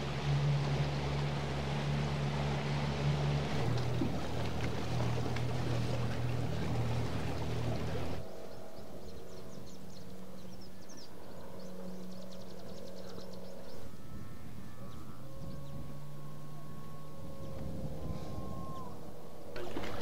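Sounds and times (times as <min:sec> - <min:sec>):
water noise: 0:00.0 - 0:09.2, 0:13.1 - 0:20.0
distant engine hum: 0:00.0 - 0:20.0
outboard motor running: 0:00.0 - 0:20.0.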